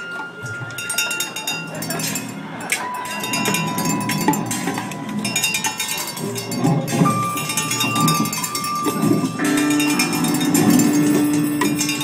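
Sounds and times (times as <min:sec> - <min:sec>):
held ringing tone: 0:00.0 - 0:12.0
clanking strikes on metal pots: 0:00.6 - 0:12.0.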